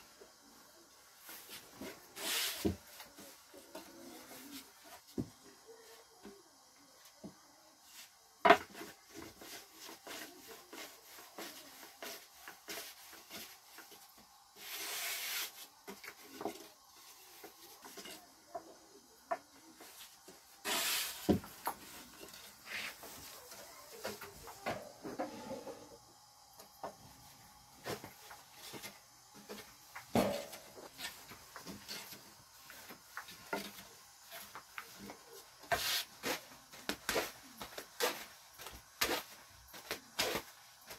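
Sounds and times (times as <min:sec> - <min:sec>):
soft rubbing of dough: 0:00.0 - 0:40.9.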